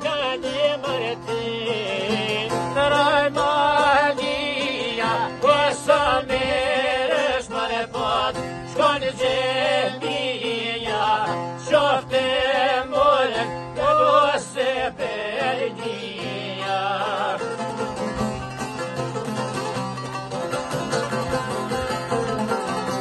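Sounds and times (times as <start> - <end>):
men singing folk song: 0.0 - 19.2, 20.7 - 23.0
plucked lutes: 0.0 - 23.0.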